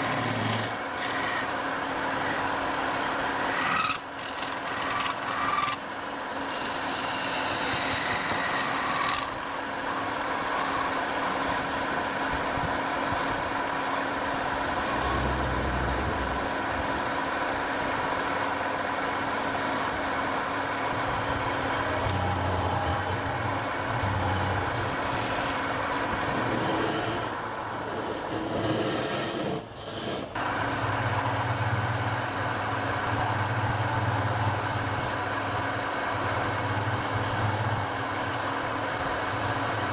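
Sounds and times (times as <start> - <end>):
turning tool cutting spinning wood: 0.0 - 5.9, 6.5 - 11.7, 12.4 - 18.6, 19.2 - 39.9
wood lathe motor hum: 0.0 - 11.6, 12.4 - 18.6, 19.2 - 39.9.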